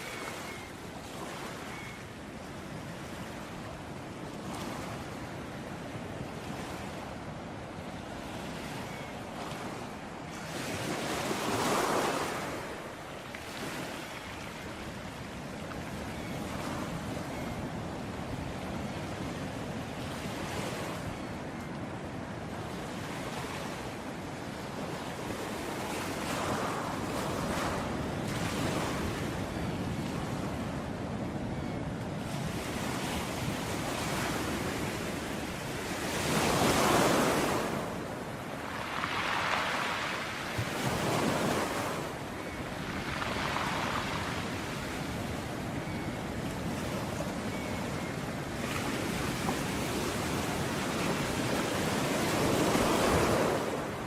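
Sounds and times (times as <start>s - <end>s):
ocean waves breaking: 2.9s - 54.0s.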